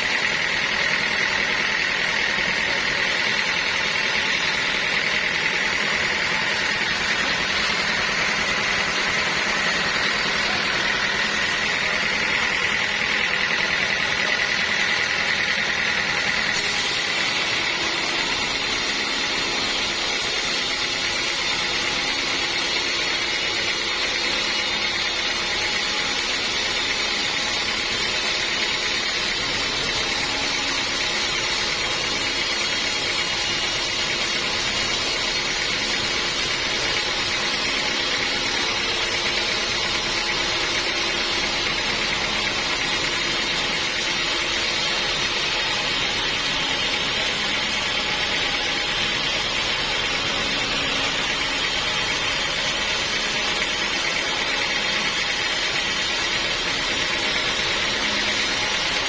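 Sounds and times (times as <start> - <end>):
sawmill machinery whining: 0.0 - 59.0.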